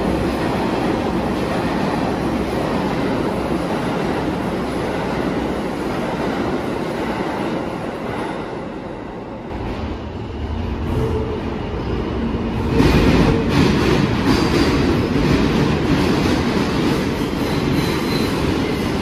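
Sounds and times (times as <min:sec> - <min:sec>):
subway train passing: 0:00.0 - 0:19.0.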